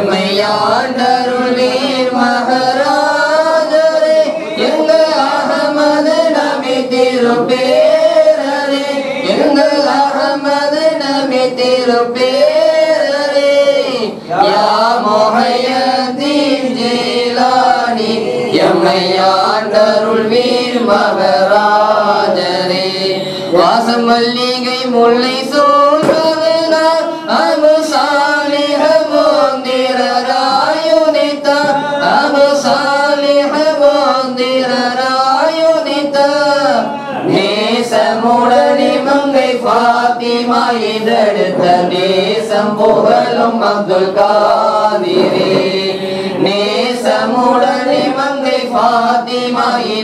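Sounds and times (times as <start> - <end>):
men chanting together: 0.0 - 50.0.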